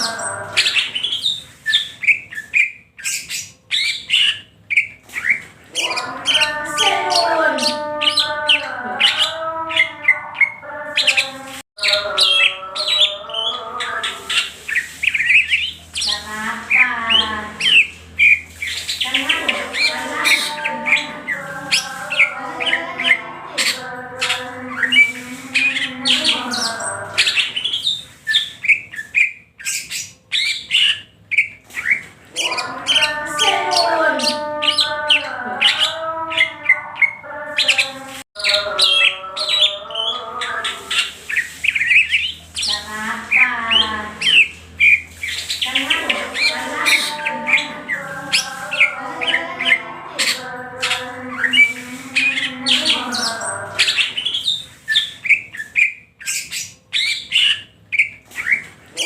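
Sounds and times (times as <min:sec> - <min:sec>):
bird singing chirps and whistles: 0:00.0 - 0:59.0.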